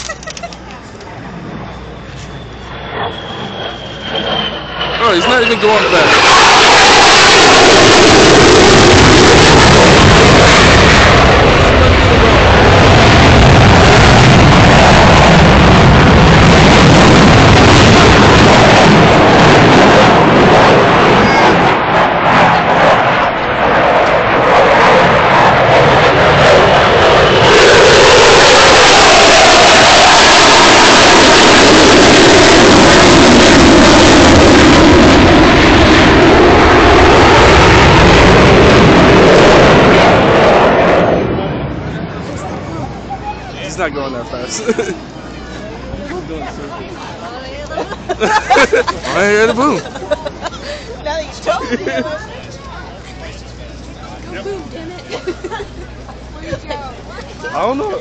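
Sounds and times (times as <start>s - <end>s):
fighter jet roaring past: 1.1s - 44.4s, 46.4s - 51.7s.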